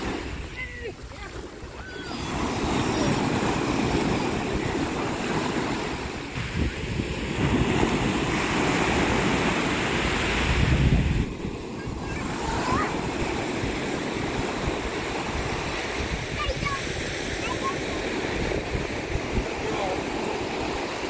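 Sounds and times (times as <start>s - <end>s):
surf washing over sandy beach: 0.0s - 21.0s.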